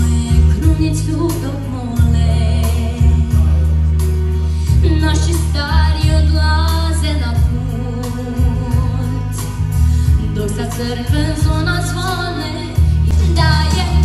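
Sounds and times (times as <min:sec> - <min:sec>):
woman singing into microphone: 0:00.0 - 0:04.0, 0:04.6 - 0:14.0
deep bass line accompaniment: 0:00.0 - 0:14.0.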